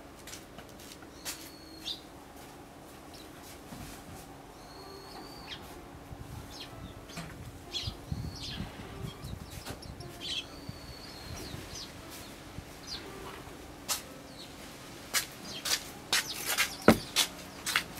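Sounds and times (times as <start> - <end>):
songbirds chirping: 0.8 - 17.9.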